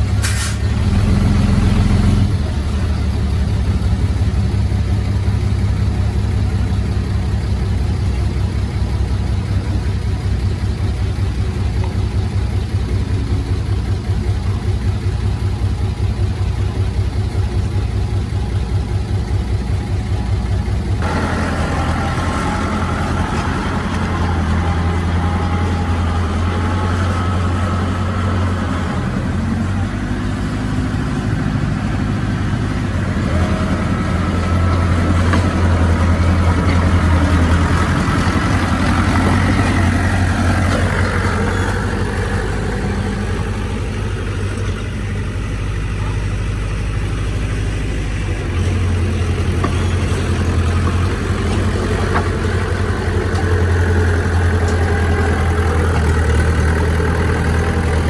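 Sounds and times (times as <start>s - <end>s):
engine whining tones: 0.0s - 58.0s
heavy diesel engine running: 0.0s - 58.0s.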